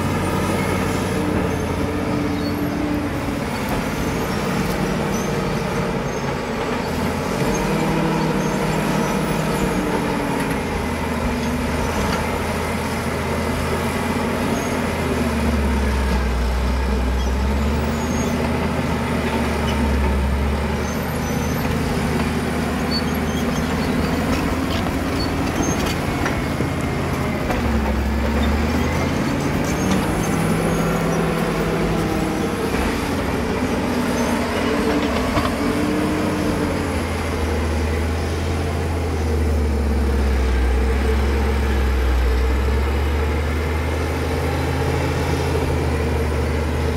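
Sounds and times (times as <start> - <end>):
bulldozer diesel engine revving: 0.0 - 46.9.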